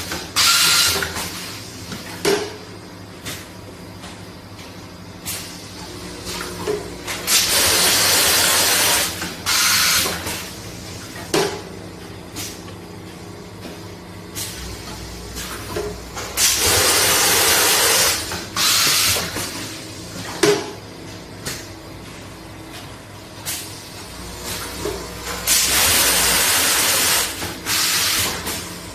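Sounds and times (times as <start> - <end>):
machine hum: 0.0 - 28.9.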